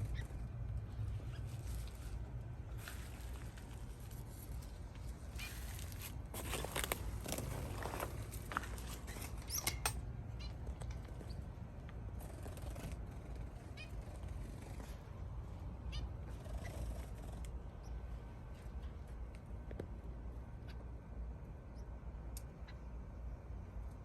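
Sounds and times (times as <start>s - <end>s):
small birds chirping: 0.0s - 19.0s, 20.3s - 23.3s
low background rumble: 0.0s - 24.0s.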